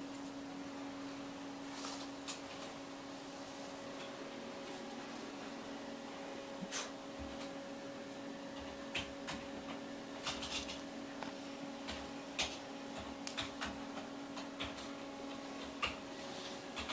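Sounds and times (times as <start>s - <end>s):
faint room hum: 0.0s - 16.9s.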